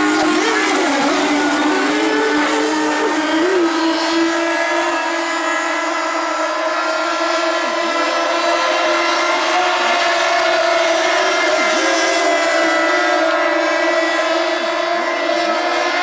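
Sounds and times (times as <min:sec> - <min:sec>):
model boat engines whining: 0:00.0 - 0:16.0.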